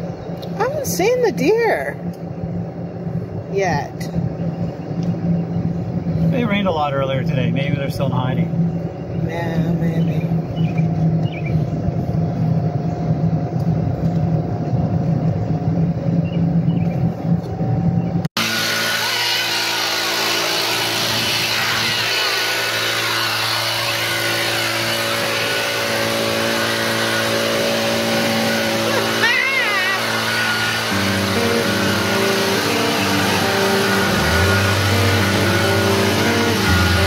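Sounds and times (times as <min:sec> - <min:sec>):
golf cart motor and tyres rumbling: 0:00.0 - 0:37.0
steady hum with held tones: 0:00.0 - 0:37.0.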